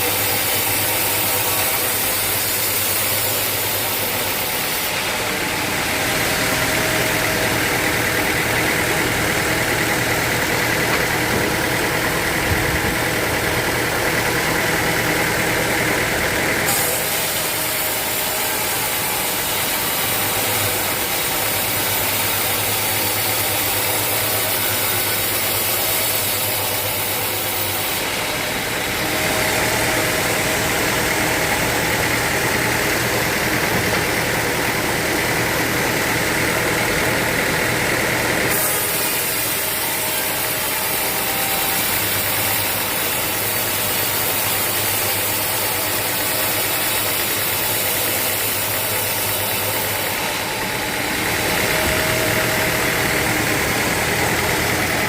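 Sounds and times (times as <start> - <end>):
sawmill machinery sawing logs: 0.0 - 55.0.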